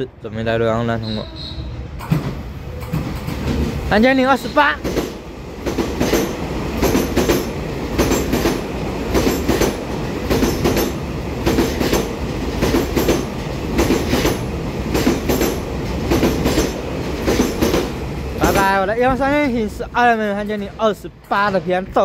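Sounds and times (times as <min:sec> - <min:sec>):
train rumble: 0:00.0 - 0:22.0
wheels clacking over rail joints: 0:02.0 - 0:22.0.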